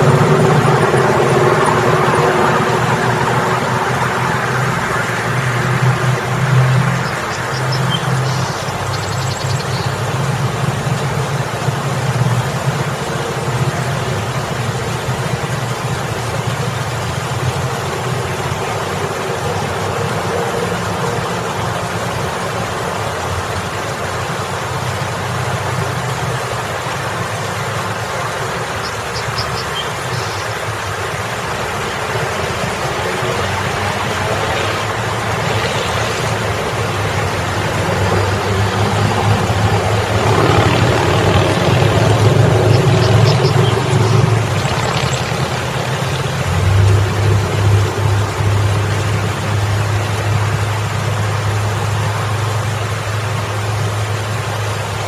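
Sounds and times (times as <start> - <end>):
car passing close: 0.0 - 54.8
road traffic hum: 0.0 - 55.0
water splashing down fountain: 0.0 - 55.0.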